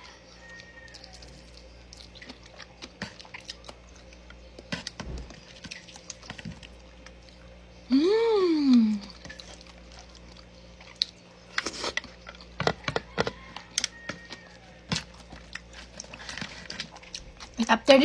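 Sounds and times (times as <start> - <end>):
chewing: 0.0 - 7.9, 8.6 - 17.9.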